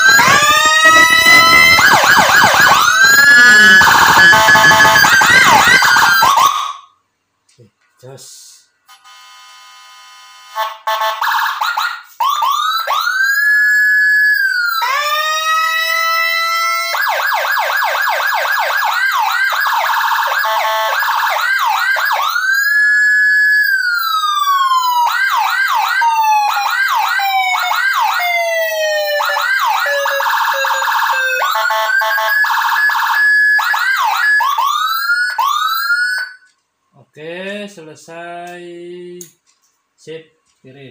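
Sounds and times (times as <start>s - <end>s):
electronic siren wailing and yelping: 0.0s - 6.9s, 10.6s - 36.5s.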